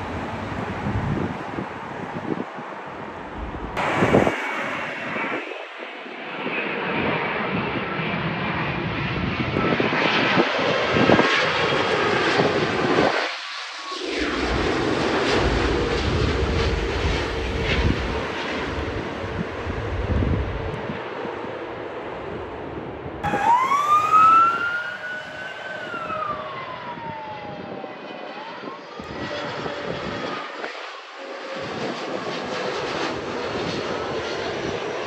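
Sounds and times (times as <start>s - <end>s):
deep rumble of aircraft on runway: 0.0s - 35.0s
jet engines rushing: 0.0s - 35.0s.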